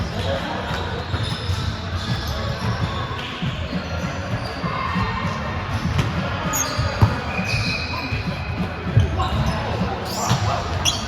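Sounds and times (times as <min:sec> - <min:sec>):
volleyball thuds in a gym: 0:00.0 - 0:11.0.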